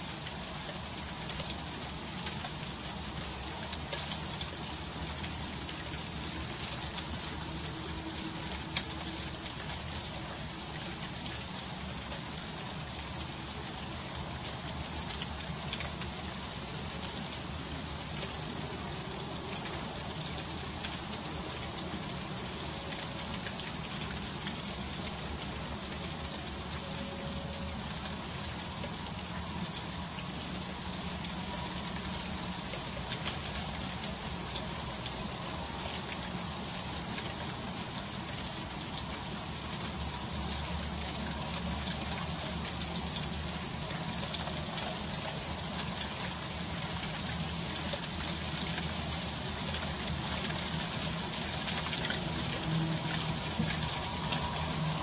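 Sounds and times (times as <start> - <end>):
freezing rain pattering: 0.0 - 55.0.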